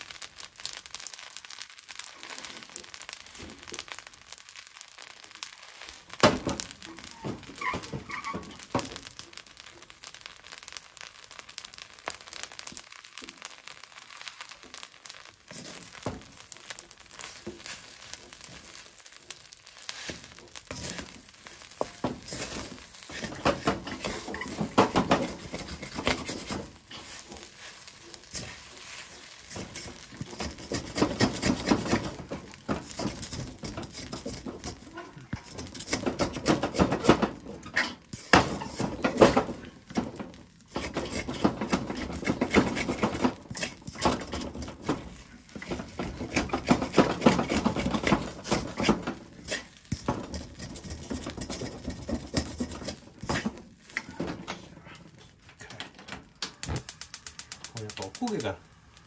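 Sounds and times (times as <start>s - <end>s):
spatula scraping wok: 5.4s - 55.8s.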